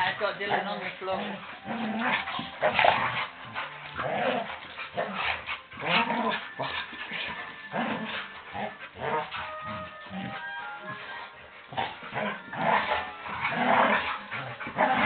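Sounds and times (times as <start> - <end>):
dogs growling and yipping: 0.0 - 15.0.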